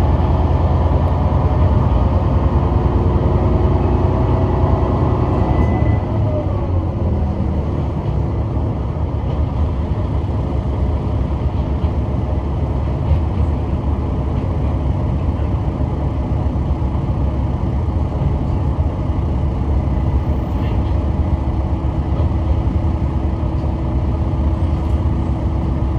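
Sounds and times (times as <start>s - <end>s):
railcar engine and wheels rumbling: 0.0s - 25.9s.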